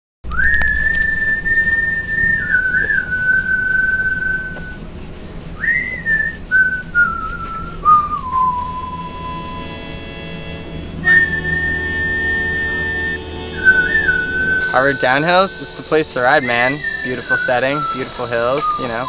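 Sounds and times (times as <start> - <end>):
whistled melody: 0.2 - 19.0
faint low drone: 0.4 - 19.0.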